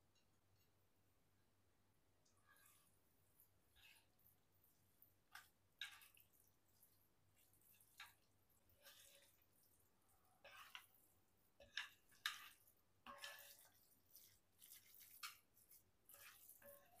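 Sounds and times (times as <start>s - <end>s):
wet squishes of food handling: 2.2s - 17.0s.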